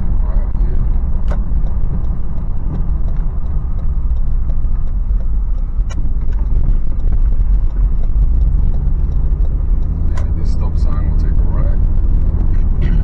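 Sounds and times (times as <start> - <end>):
faint clicks: 0.0 - 12.8
car engine and tyres rumbling: 0.0 - 13.0.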